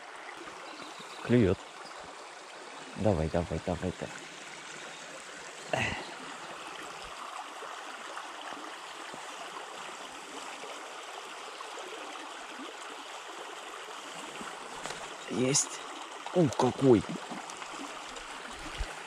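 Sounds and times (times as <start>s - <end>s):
forest stream running: 0.0s - 19.0s.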